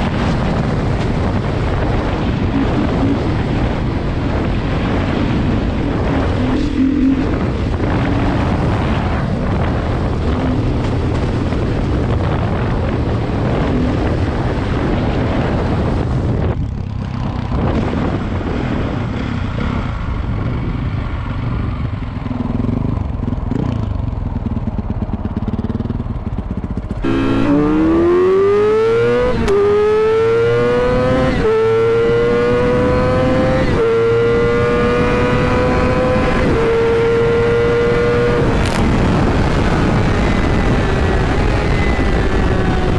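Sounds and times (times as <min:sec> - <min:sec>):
motorcycle engine accelerating: 0:00.0 - 0:42.9
wind rushing over microphone: 0:00.0 - 0:42.9.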